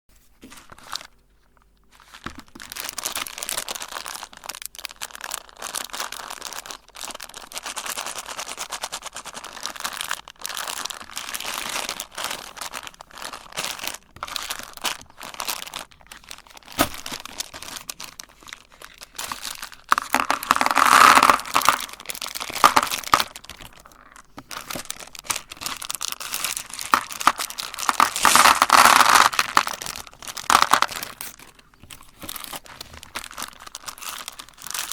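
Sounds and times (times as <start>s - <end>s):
candy shells crunching in grinder: 1.9s - 34.9s.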